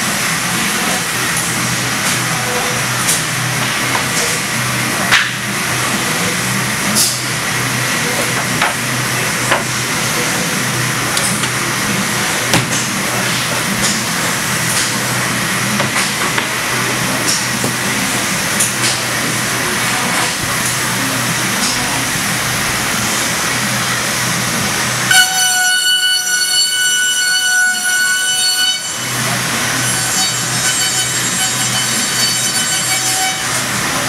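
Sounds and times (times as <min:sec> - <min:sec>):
machine spindles whirring: 0:00.0 - 0:25.1, 0:25.9 - 0:34.0.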